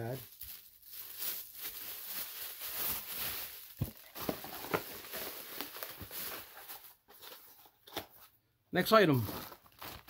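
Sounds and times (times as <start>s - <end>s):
plastic bag rustling and crinkling: 0.0s - 7.7s, 9.1s - 10.0s.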